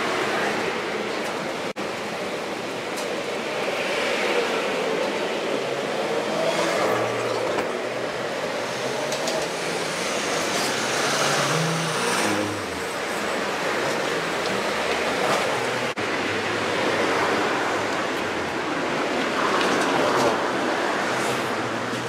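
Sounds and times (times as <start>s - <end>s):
cars passing on road: 0.0s - 22.0s.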